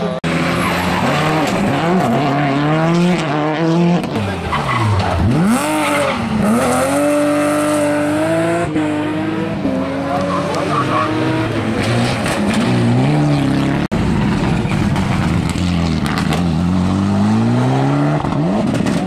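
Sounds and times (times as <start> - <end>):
rally car engines passing: 0.0 - 19.0.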